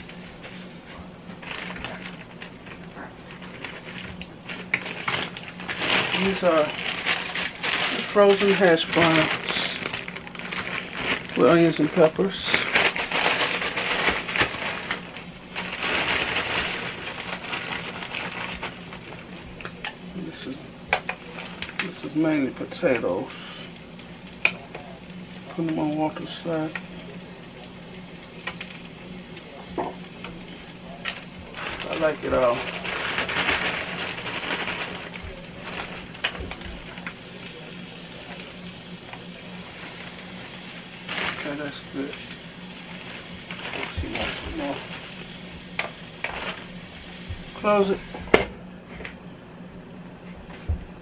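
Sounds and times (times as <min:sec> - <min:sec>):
plastic bag crinkling: 0:00.0 - 0:48.2
hash browns sizzling: 0:00.0 - 0:51.0.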